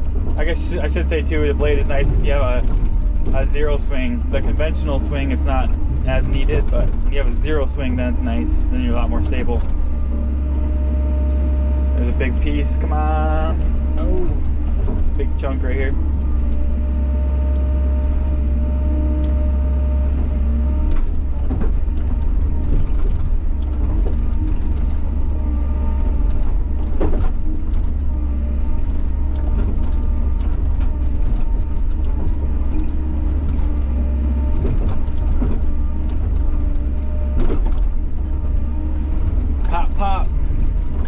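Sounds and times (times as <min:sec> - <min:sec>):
diesel excavator engine under load: 0:00.0 - 0:41.0
hydraulic whine: 0:00.0 - 0:41.0.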